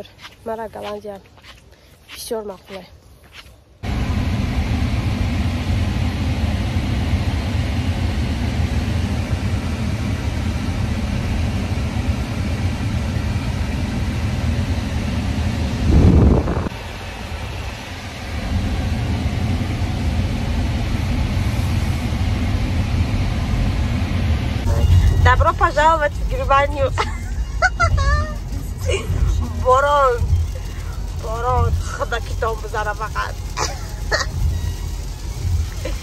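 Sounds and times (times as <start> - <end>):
car cabin road rumble: 3.8 - 36.0.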